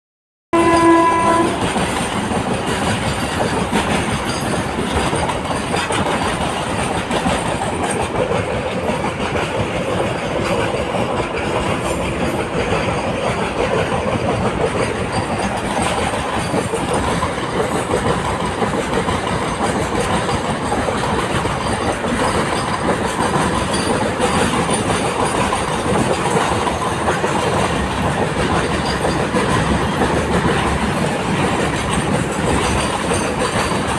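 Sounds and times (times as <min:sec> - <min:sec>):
train wheels on rails: 0:00.5 - 0:33.9.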